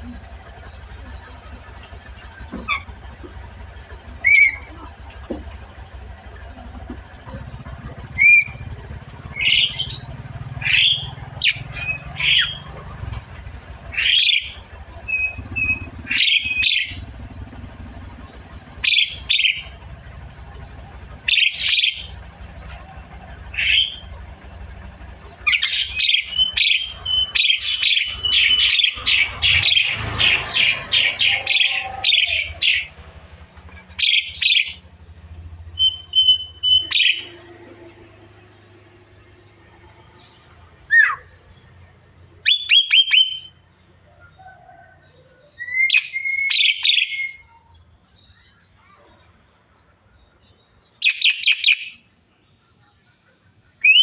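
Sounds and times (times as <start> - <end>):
myna bird calling: 0.0 - 54.0.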